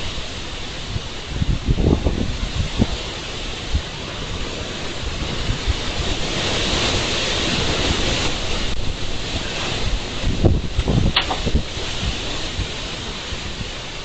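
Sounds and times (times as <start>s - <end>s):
strong wind blowing: 0.0s - 14.0s
wind buffeting microphone: 0.0s - 14.0s.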